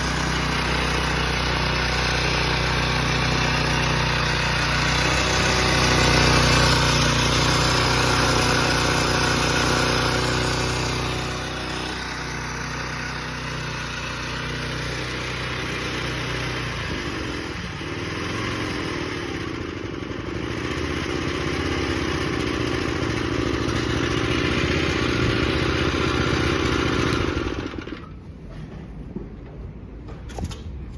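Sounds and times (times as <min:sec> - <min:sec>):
small tiller engine running: 0:00.0 - 0:28.3.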